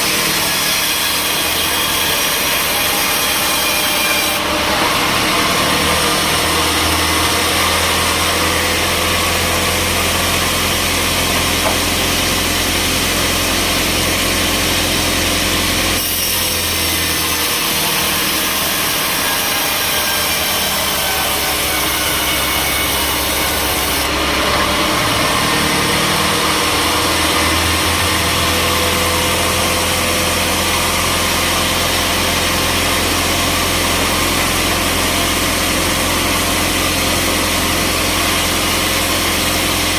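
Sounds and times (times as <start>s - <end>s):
saw cutting through timber: 0.0s - 39.9s.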